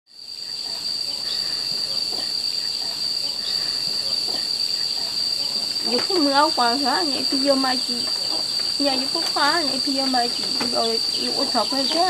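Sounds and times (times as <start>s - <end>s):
insects droning high-pitched: 0.1s - 12.0s.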